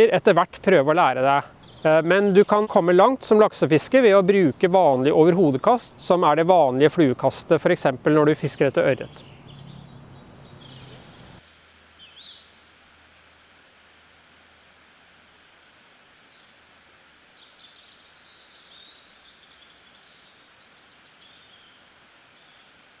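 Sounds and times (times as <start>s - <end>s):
birds chirping: 0.0s - 12.5s, 15.0s - 22.8s
steady outdoor hiss: 0.0s - 23.0s.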